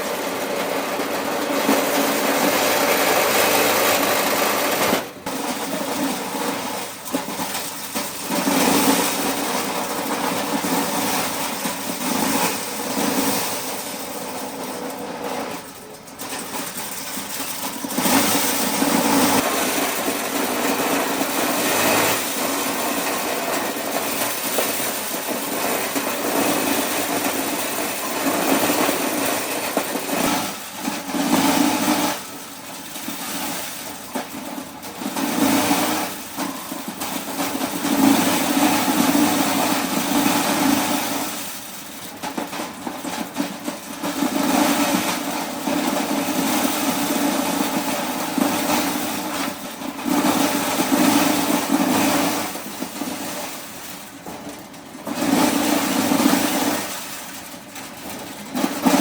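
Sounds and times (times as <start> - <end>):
corn shelling machine running: 0.0 - 59.0.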